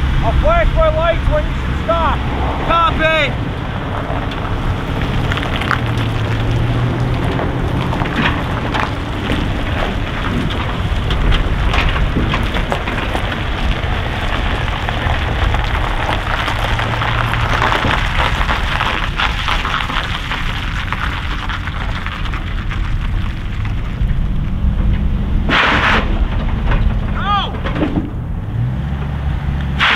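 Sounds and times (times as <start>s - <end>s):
dense crackling noise: 0.0s - 29.9s
truck engine rumble: 0.0s - 29.9s.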